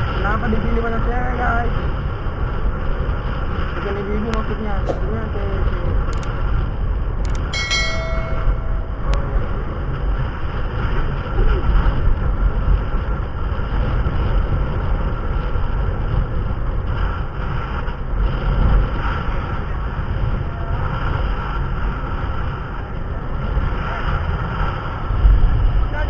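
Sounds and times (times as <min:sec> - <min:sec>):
vehicle rumbling: 0:00.0 - 0:26.0
wind noise: 0:00.0 - 0:26.0.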